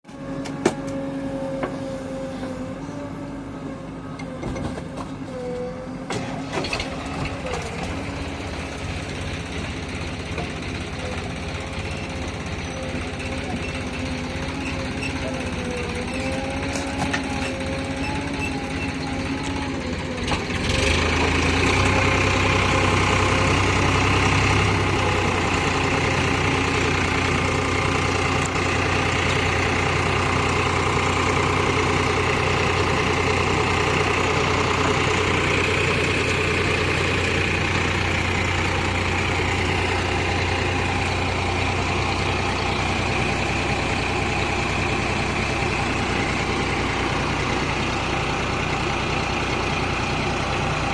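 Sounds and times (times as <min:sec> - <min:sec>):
backhoe diesel engine revving: 0:00.0 - 0:50.9.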